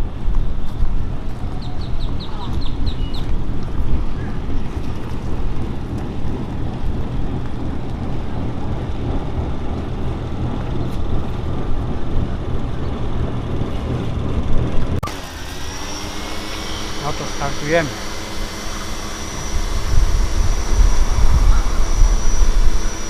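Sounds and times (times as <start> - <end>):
low outdoor rumble: 0.0 - 15.0, 16.4 - 23.0.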